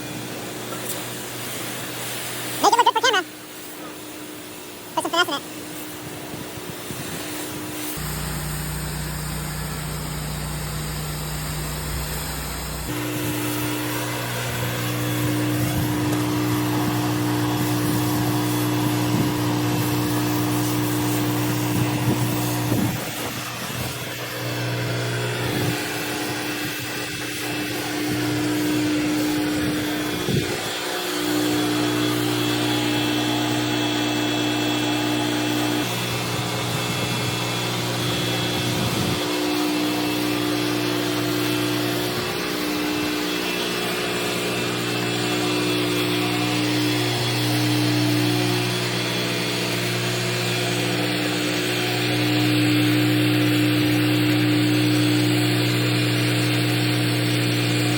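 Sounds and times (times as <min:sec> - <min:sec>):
high-pressure water spray hissing: 0:00.0 - 0:57.9
pressure washer engine hum: 0:00.0 - 0:57.9.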